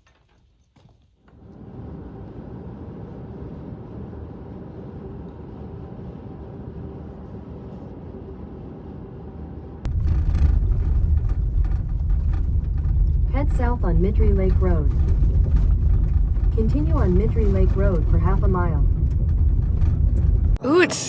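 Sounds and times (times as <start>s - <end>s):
engine and road rumble: 0.0s - 20.6s.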